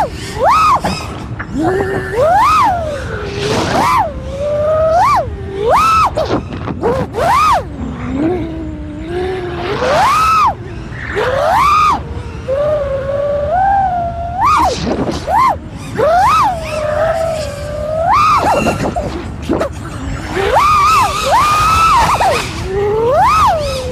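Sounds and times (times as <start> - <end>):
quadcopter motors whining: 0.0 - 23.9.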